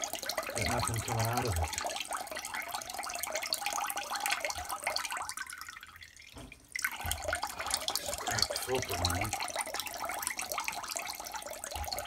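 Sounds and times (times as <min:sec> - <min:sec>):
thin water stream splashing: 0:00.0 - 0:12.0.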